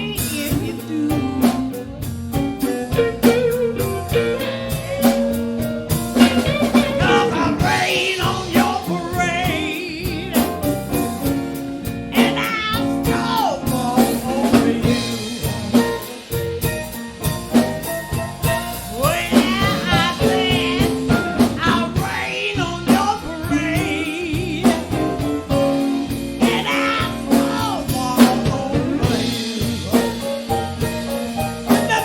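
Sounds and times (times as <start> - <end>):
live blues band playing: 0.0 - 32.0.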